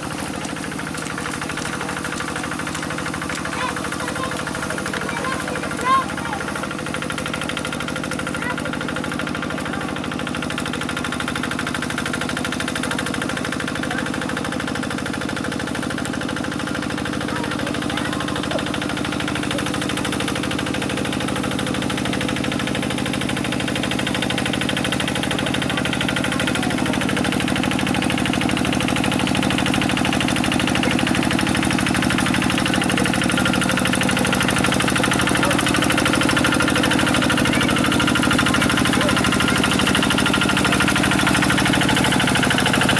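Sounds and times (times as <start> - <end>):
single-cylinder diesel engine running: 0.0 - 42.9.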